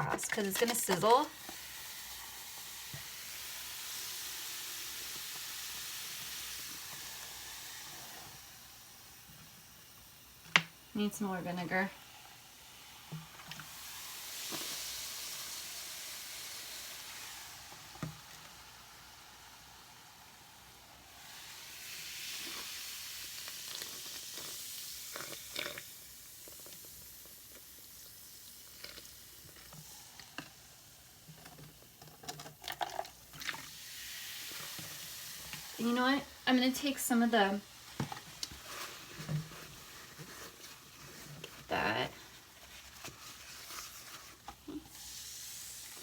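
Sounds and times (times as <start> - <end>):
baking soda and vinegar fizzing: 0.0 - 46.0.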